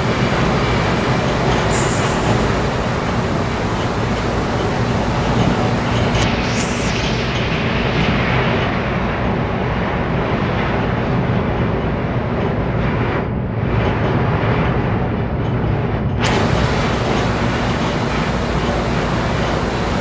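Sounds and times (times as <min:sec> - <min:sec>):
wind and sea rushing: 0:00.0 - 0:14.9, 0:15.7 - 0:20.0.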